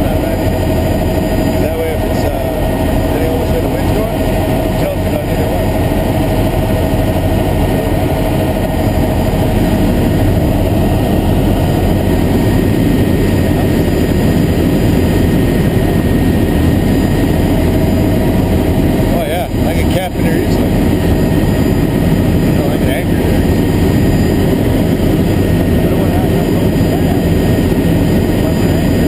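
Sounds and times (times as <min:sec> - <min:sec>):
helicopter engine and rotor: 0:00.0 - 0:29.0
thin steady whine: 0:00.0 - 0:29.0.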